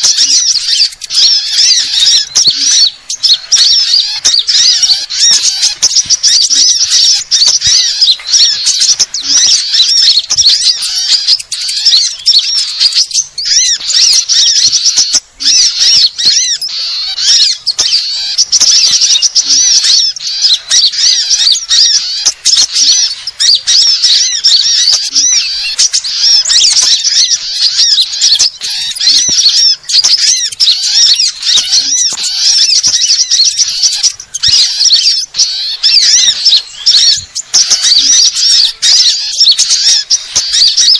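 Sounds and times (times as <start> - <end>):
songbirds chirping and calling: 0.0 - 40.9.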